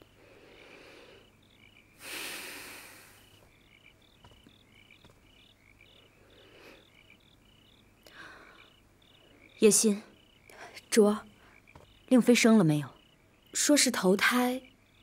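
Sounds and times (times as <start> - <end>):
crickets chirping faintly: 0.0 - 15.0.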